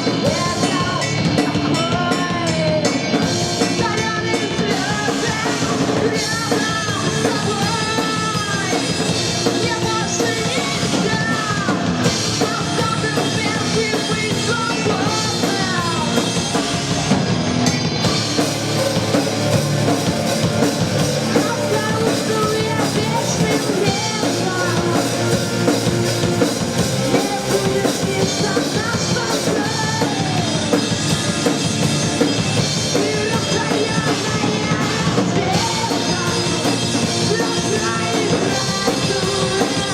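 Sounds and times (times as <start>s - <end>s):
person singing: 0.0s - 16.6s, 19.0s - 39.9s
drum kit: 0.0s - 39.9s
rock band playing live: 0.0s - 39.9s.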